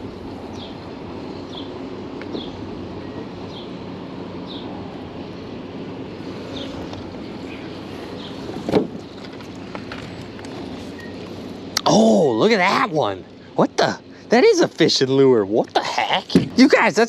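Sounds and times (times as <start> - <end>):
low motor hum: 0.0 - 15.5.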